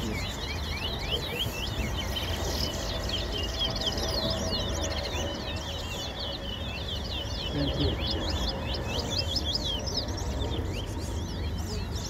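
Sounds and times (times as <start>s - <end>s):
finch singing: 0.0s - 12.0s.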